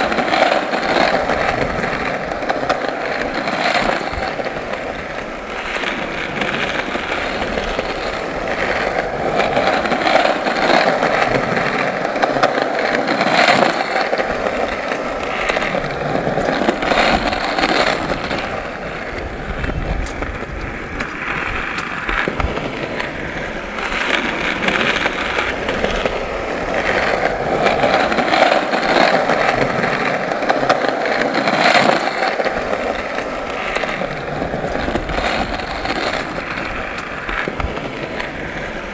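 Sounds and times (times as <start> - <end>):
skateboard wheels rolling on pavement: 0.0 - 38.9
wheels clicking over cracks: 0.0 - 38.9.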